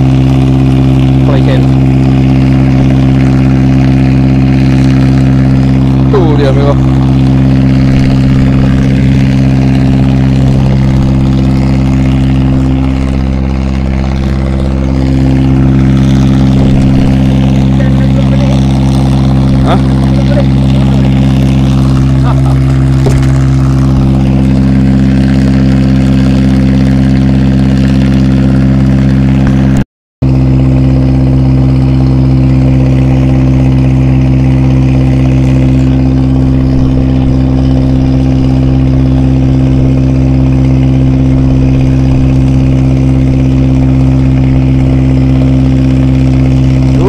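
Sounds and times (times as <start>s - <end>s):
outboard motor idling: 0.0s - 47.0s.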